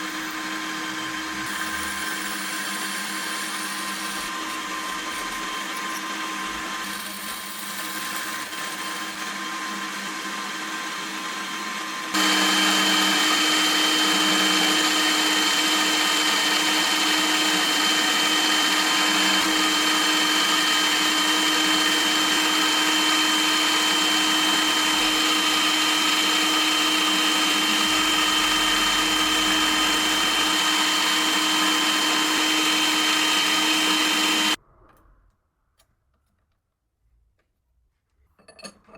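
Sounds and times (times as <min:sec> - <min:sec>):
milling machine whining: 0:00.0 - 0:34.6.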